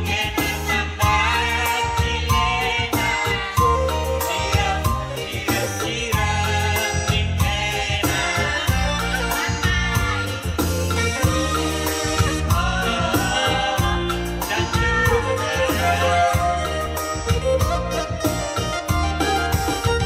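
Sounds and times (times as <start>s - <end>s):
person singing into microphone: 0.0s - 18.6s
electronic keyboard: 0.0s - 20.0s
shaker percussion: 0.0s - 20.0s
steady beat with heavy bass: 0.0s - 20.0s.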